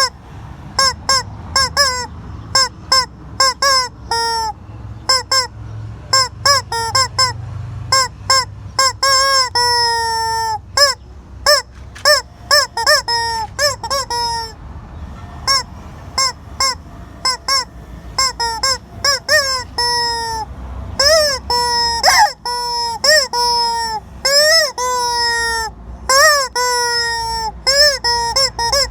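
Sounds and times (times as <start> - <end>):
squeaky chicken toy squawking: 0.8 - 14.6, 15.3 - 28.9.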